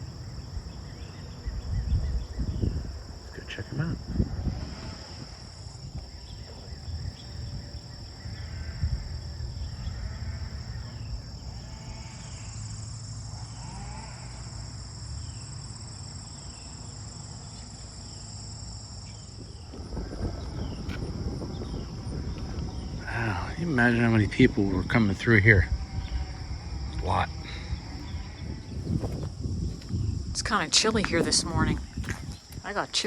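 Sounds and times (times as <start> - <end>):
insect chorus trilling: 0.0 - 33.0.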